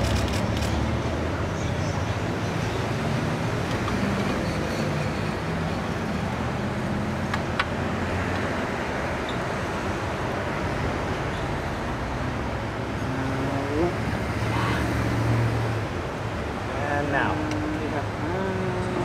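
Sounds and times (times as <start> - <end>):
passing vehicles engine hum: 0.0 - 19.0.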